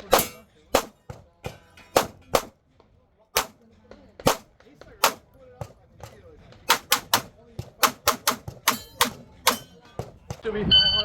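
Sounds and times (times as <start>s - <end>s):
pistol shots: 0.0s - 2.6s, 3.4s - 10.4s.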